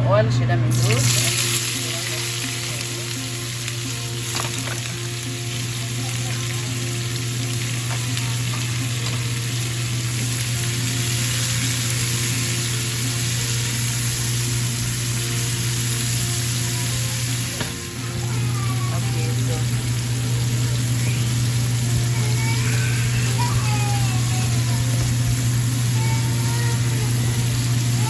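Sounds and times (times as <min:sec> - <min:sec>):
chicken sizzling in oil: 0:00.7 - 0:28.0.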